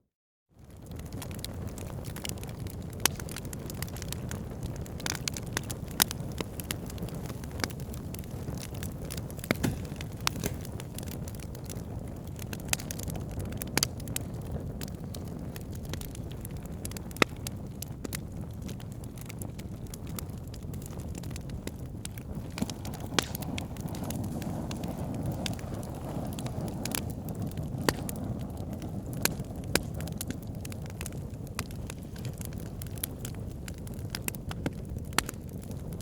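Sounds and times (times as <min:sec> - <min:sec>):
low rumble of flames: 0:00.6 - 0:36.0
wood fire crackles and pops: 0:00.6 - 0:36.0.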